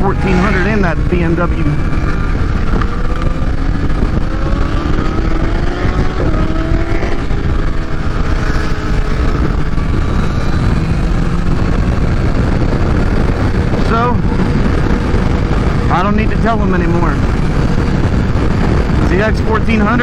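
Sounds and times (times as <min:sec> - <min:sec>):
motorcycle engine pulling hard: 0:00.0 - 0:20.0
wind rush on microphone: 0:00.0 - 0:20.0.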